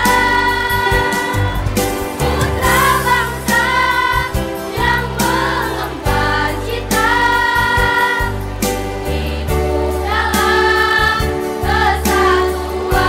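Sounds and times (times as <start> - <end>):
women's choir singing: 0.0 - 13.0.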